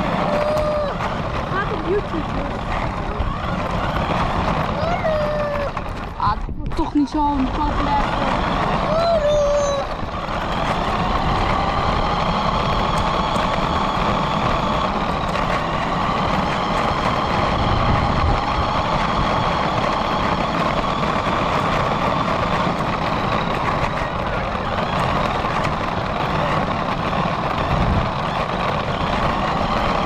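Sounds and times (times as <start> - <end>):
low rumble: 0.0 - 30.0
radio-controlled car motor whining: 0.0 - 30.0.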